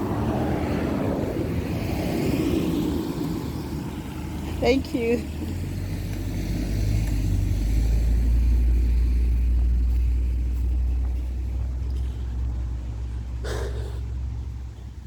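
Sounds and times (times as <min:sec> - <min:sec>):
car passing by: 0:00.0 - 0:15.0.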